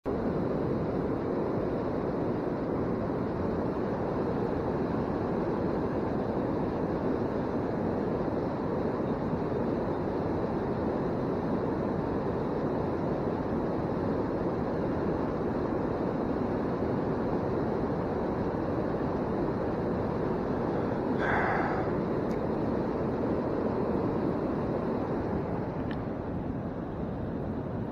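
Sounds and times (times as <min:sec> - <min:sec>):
steady rushing noise: 0:00.0 - 0:27.9.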